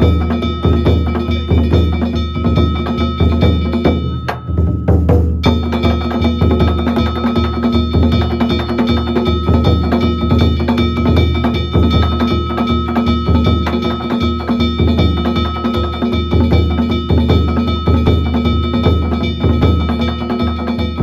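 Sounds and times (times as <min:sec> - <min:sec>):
metal gongs ringing: 0:00.0 - 0:21.0
taiko drum beating: 0:00.0 - 0:21.0.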